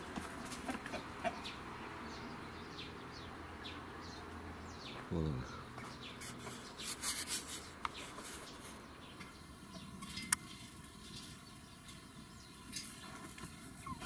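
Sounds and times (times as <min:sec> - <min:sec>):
hens clucking and chirping: 0:00.0 - 0:03.8, 0:05.6 - 0:14.0.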